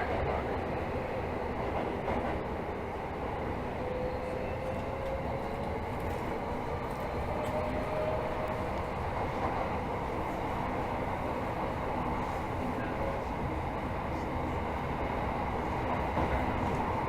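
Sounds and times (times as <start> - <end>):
subway wheels rumbling: 0.0 - 17.0.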